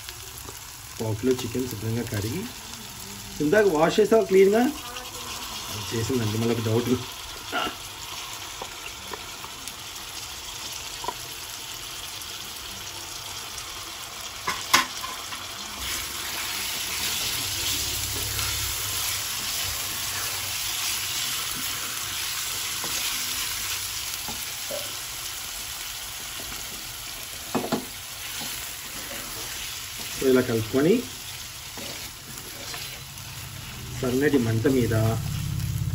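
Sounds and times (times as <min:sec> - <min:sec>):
chicken sizzling in oil: 0:00.0 - 0:35.9.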